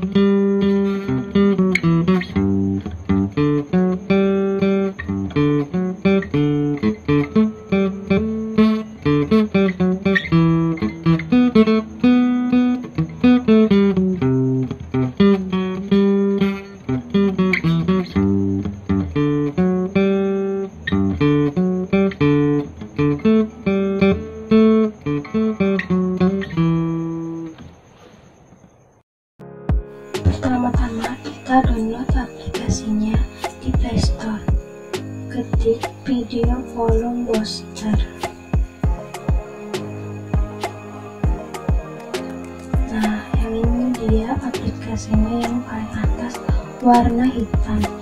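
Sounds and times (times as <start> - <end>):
acoustic guitar picking: 0.0 - 27.8, 29.4 - 48.0.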